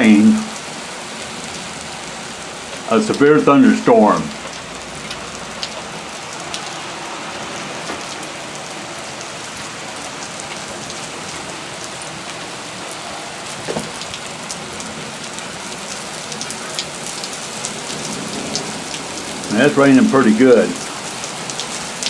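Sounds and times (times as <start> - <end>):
close raindrop splats: 0.0 - 22.0
heavy rain falling: 0.0 - 22.0.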